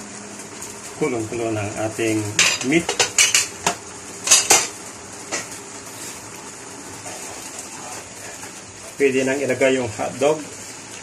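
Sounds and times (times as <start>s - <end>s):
sauce boiling hiss: 0.0s - 11.0s.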